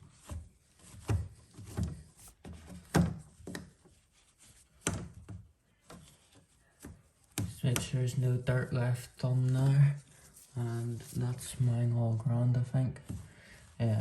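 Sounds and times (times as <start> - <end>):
soft rubbing: 0.0 - 14.0.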